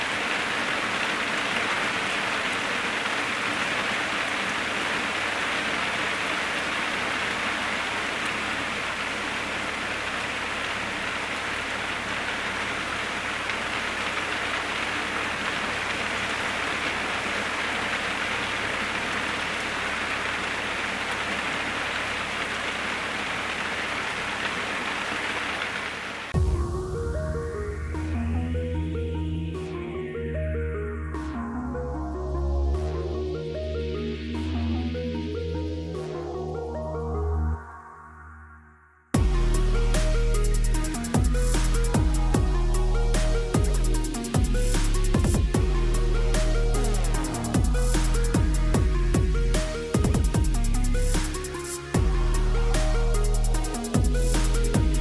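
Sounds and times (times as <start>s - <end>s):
steady rain falling: 0.0s - 28.2s, 39.2s - 55.0s.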